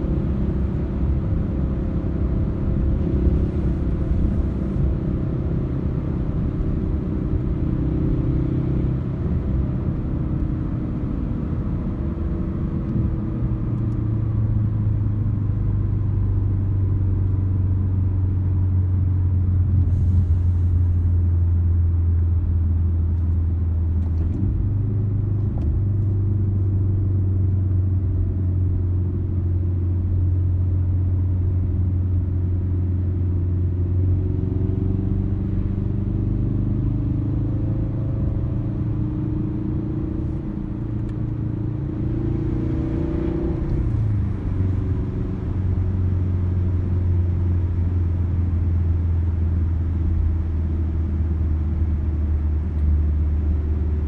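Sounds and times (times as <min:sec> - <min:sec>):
car engine drone from cabin: 0:00.0 - 0:54.0
road noise: 0:00.0 - 0:54.0.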